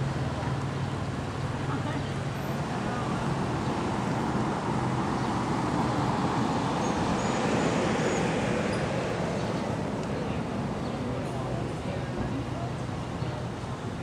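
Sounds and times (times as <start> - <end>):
street traffic rush: 0.0 - 14.0.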